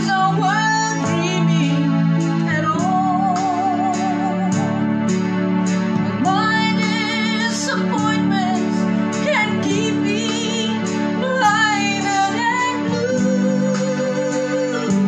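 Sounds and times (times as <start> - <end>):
woman singing: 0.0 - 4.9, 6.2 - 15.0
instrumental backing track: 0.0 - 15.0.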